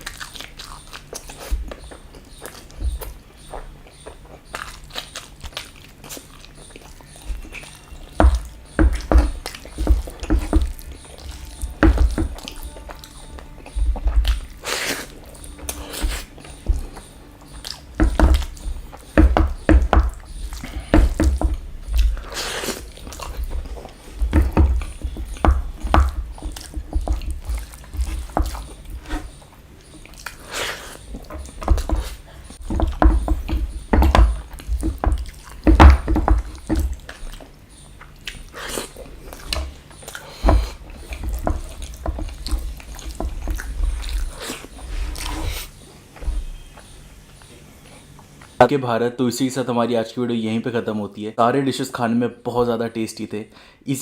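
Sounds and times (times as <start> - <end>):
person chewing food: 0.0 - 48.6.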